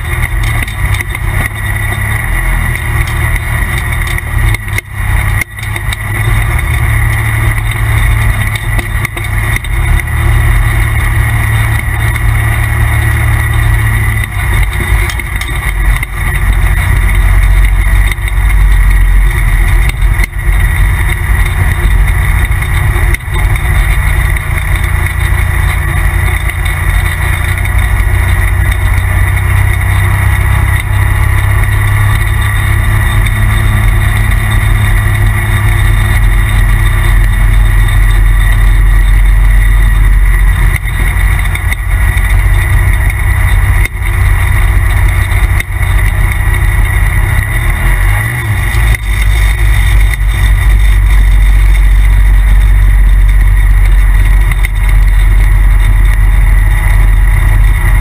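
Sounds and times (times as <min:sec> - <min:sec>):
vehicle engine running loud: 0:00.0 - 0:58.0.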